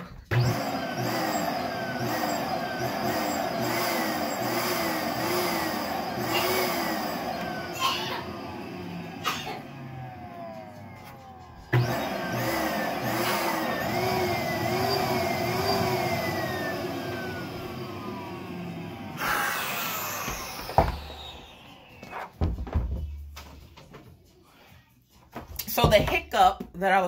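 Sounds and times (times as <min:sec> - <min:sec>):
balloon inflator blower motor: 0:00.0 - 0:22.6.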